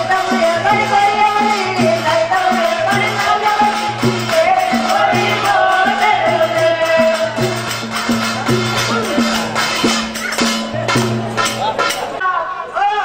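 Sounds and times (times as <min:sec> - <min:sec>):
steady drum beat: 0:00.0 - 0:12.2.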